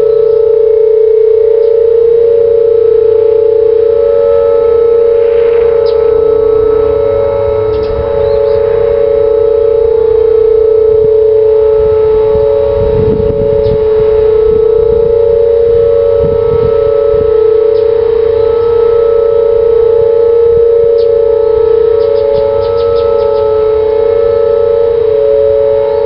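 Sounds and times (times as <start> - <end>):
outdoor warning sirens: 0.0 - 26.0.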